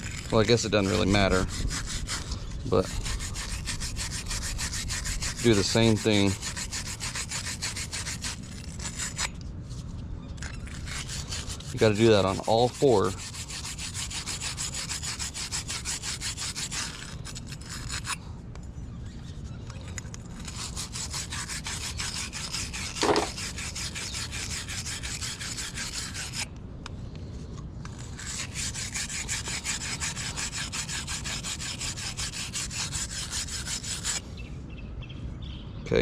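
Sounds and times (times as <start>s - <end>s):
wire brush scrubbing metal: 0.0s - 9.3s, 10.4s - 18.2s, 19.9s - 26.5s, 27.9s - 34.2s.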